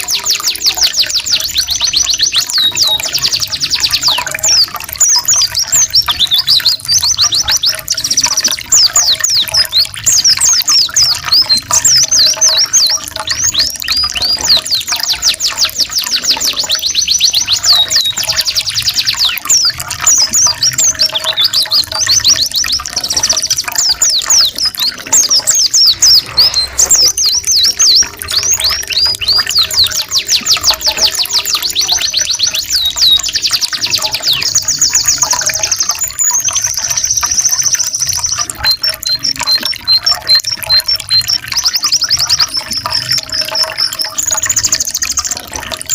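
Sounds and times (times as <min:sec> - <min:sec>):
canary trilling: 0:00.0 - 0:45.9
trickling water: 0:00.0 - 0:45.9.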